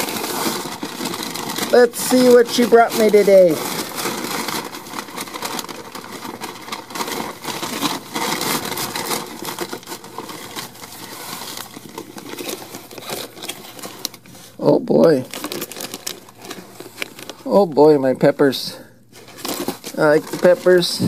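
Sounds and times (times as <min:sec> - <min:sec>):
paper bag crinkling: 0:00.0 - 0:21.0.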